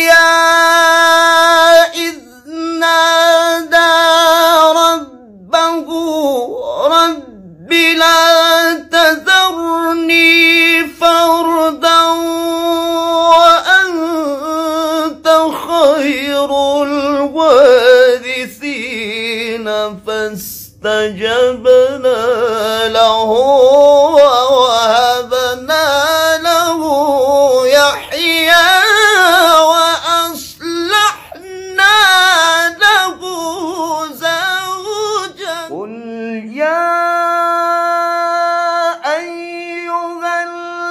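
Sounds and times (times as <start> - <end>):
man chanting recitation: 0.0 - 40.9.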